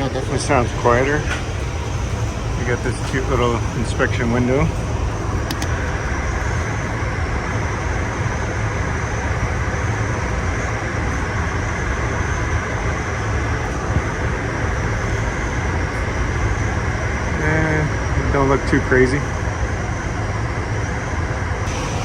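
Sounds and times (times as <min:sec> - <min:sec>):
faint high whine: 0:00.0 - 0:22.0
fan rushing air: 0:00.0 - 0:22.0.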